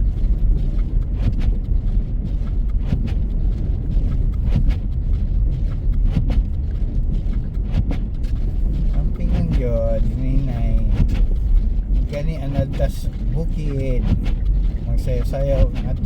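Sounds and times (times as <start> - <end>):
tyres and engine rumble: 0.0 - 16.0.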